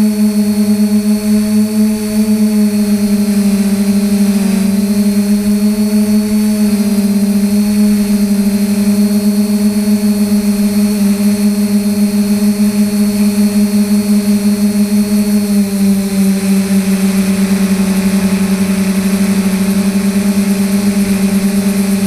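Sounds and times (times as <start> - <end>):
quadcopter motors buzzing: 0.0 - 22.0.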